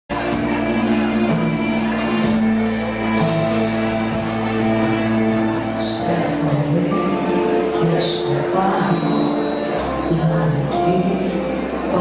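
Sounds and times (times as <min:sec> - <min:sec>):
live band playing chords: 0:00.1 - 0:12.0.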